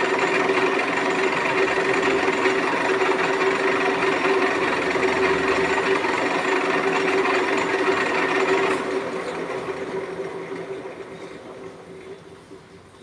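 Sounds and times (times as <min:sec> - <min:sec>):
metal lathe humming and hissing: 0:00.0 - 0:13.0.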